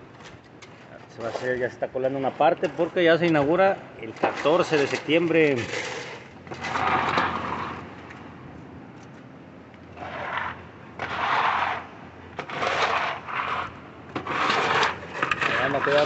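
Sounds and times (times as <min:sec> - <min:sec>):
shovel scraping wet concrete: 0:00.3 - 0:07.8, 0:10.0 - 0:16.0.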